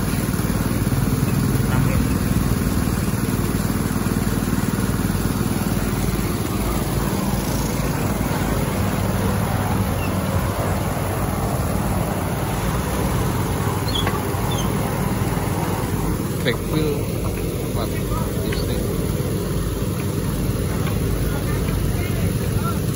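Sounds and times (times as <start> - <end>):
petrol water pumps droning: 0.0 - 22.9.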